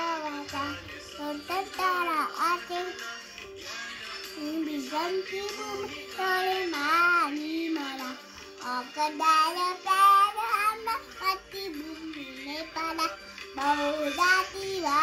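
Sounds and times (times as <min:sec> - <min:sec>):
boy singing anthem: 0:00.0 - 0:15.0.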